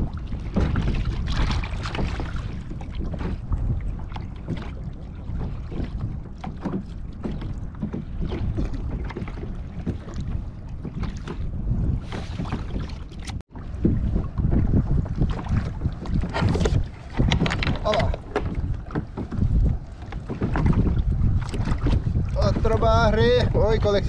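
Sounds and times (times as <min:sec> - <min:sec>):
water lapping against kayak: 0:00.0 - 0:24.0
wind rumbling on microphone: 0:00.0 - 0:24.0.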